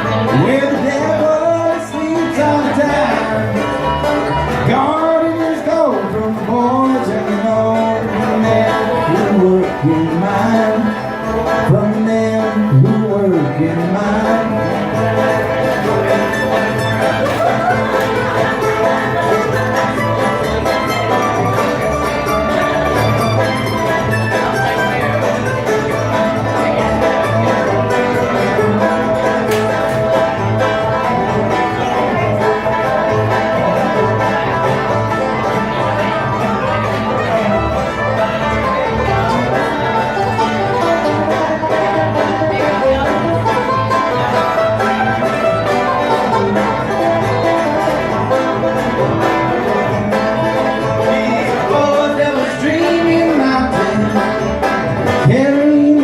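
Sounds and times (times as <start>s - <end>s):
bluegrass string band playing: 0.0s - 56.0s.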